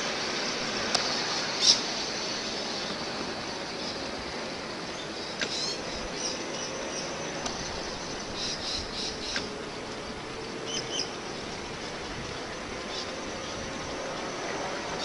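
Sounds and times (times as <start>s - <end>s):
faint steady hum: 0.0s - 15.0s
model tram running on track: 0.0s - 15.0s.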